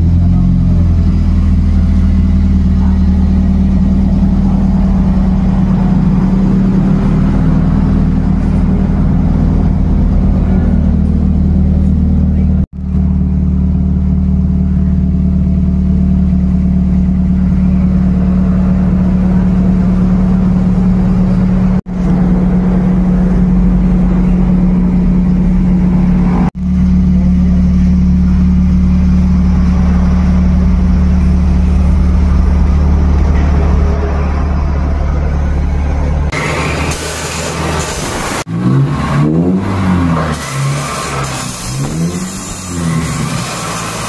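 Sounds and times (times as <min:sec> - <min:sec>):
car exhaust idling drone: 0:00.0 - 0:44.0.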